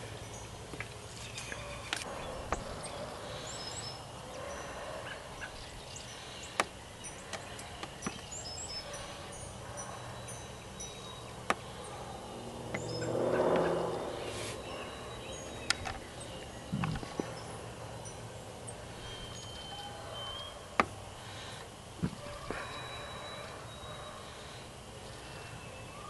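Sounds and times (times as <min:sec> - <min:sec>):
low steady hum: 0:00.0 - 0:26.0
small birds chirping: 0:00.0 - 0:26.0.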